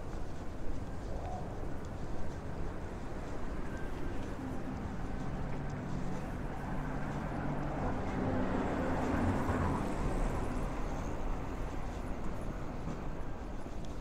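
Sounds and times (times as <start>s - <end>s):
background traffic hum: 0.0s - 14.0s.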